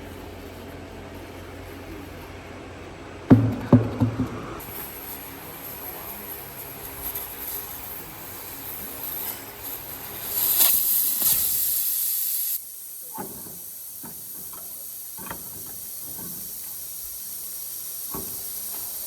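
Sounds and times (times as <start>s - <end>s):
compressed air hissing: 0.0s - 19.0s.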